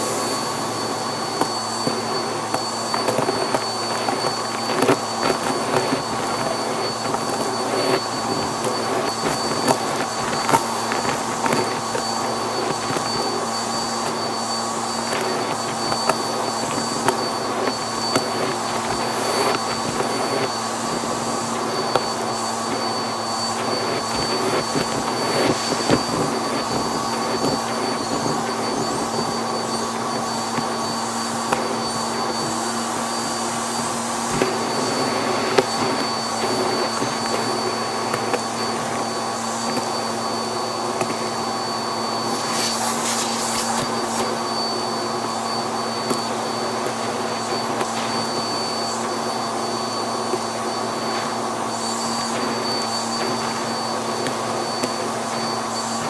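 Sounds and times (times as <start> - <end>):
vacuum cleaner running: 0.0 - 56.0
vacuum hissing surge: 0.0 - 56.0.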